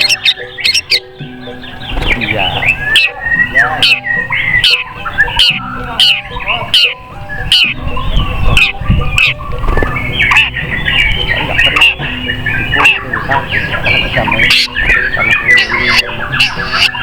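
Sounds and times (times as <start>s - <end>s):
songbirds singing and chirping: 0.0s - 17.0s.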